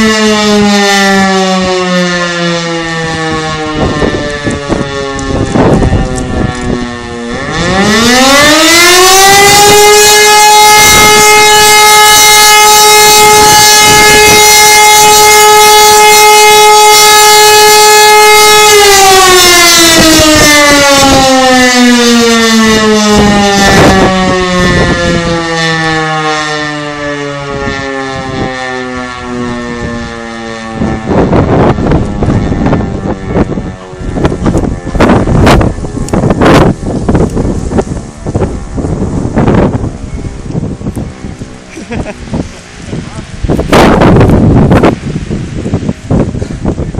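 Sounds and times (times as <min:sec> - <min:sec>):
electromechanical siren blast: 0:00.0 - 0:46.9.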